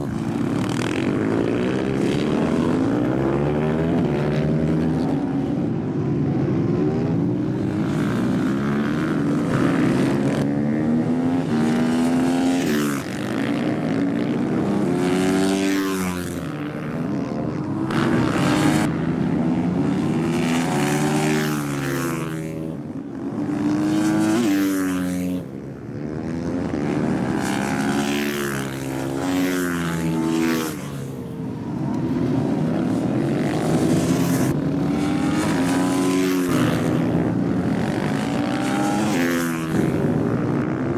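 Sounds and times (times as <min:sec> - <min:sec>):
motorcycle engines racing past: 0:00.0 - 0:40.9.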